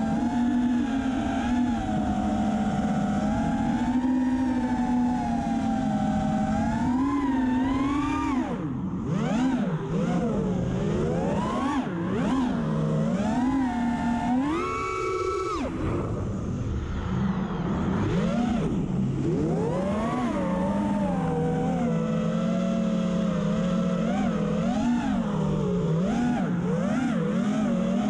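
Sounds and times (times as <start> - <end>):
quadcopter motors buzzing: 0.0 - 28.0.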